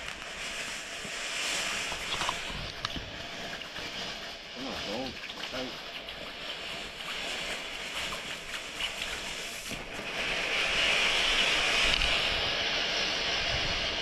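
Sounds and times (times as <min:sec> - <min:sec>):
fountain firework hissing: 0:00.0 - 0:14.0.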